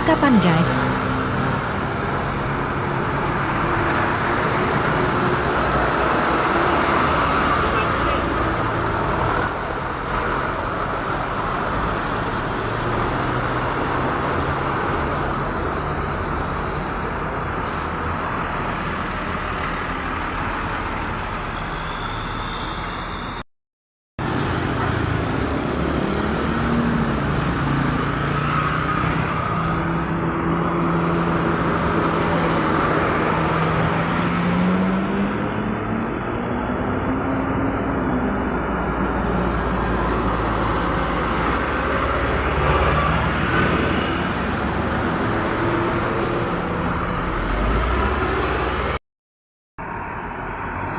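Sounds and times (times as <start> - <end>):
passing road traffic: 0.0 - 23.4, 24.2 - 49.0, 49.8 - 50.9.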